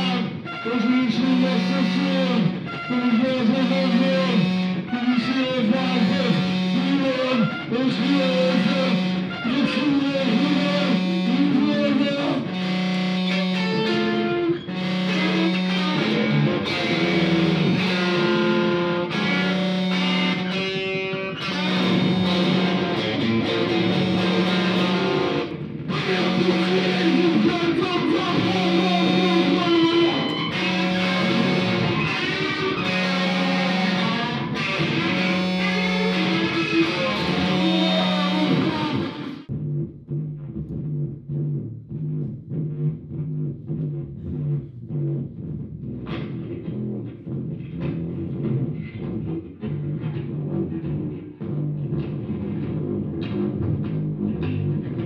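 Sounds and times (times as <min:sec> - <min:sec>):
electric guitar playing: 0:00.0 - 0:39.5, 0:48.2 - 0:55.0.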